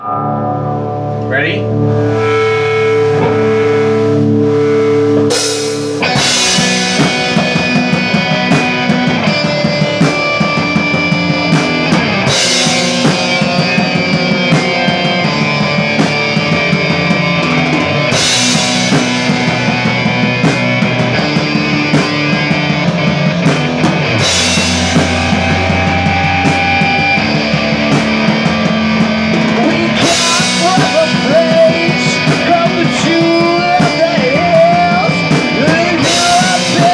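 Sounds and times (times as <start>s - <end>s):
held guitar notes: 0.0s - 36.9s
rock band playing: 0.0s - 36.9s.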